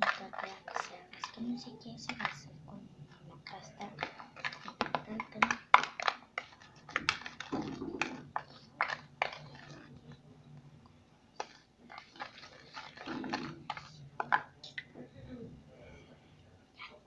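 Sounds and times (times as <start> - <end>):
slime being stirred: 0.0 - 15.0.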